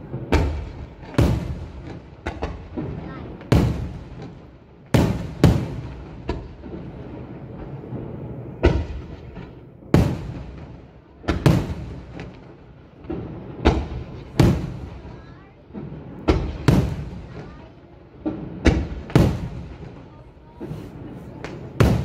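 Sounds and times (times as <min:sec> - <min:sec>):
firework booms with echo: 0:00.0 - 0:22.0.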